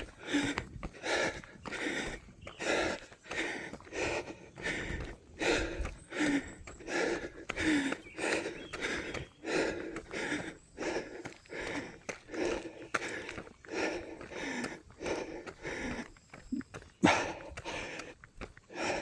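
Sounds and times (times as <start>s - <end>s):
runner breathing hard: 0.0s - 19.0s.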